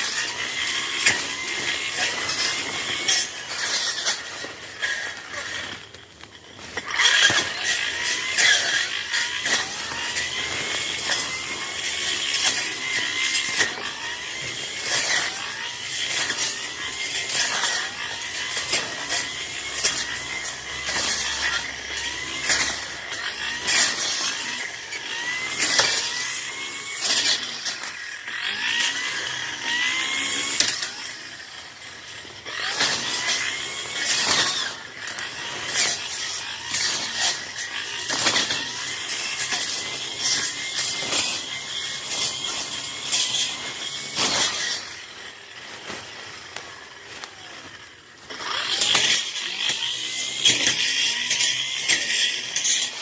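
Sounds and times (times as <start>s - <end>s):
blade cracking against brush: 0.0s - 53.0s
brush cutter engine revving: 0.0s - 53.0s.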